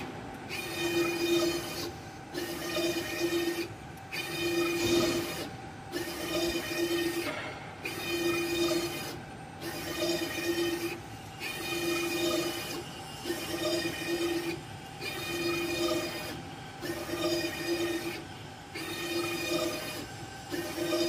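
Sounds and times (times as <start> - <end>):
machine drive motors whining: 0.0 - 21.0.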